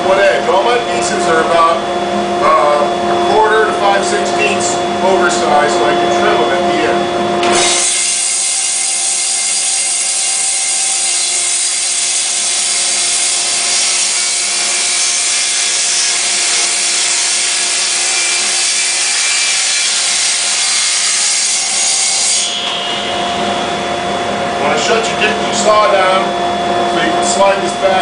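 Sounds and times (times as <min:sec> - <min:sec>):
table saw cutting wood: 0:00.0 - 0:28.0.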